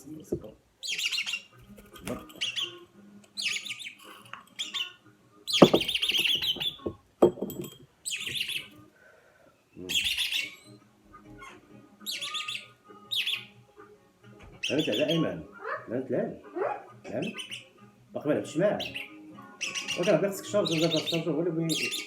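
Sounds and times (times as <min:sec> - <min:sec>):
parrots chirping and warbling: 0:00.8 - 0:08.9, 0:09.6 - 0:22.0.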